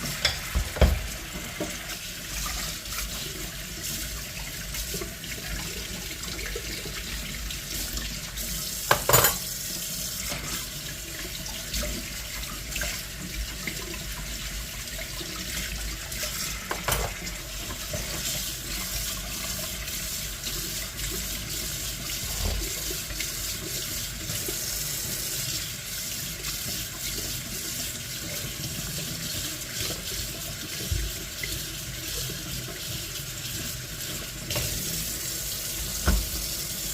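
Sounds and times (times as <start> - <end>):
tap water running into sink: 0.0 - 36.9.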